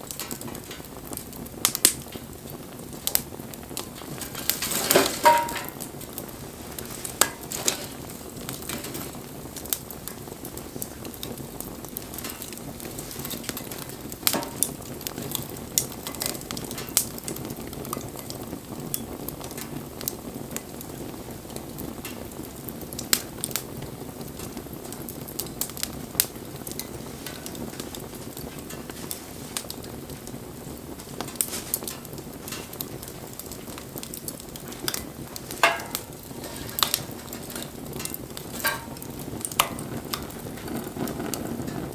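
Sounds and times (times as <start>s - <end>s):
burning wood crackling and popping: 0.0s - 41.9s
campfire hissing: 0.0s - 41.9s.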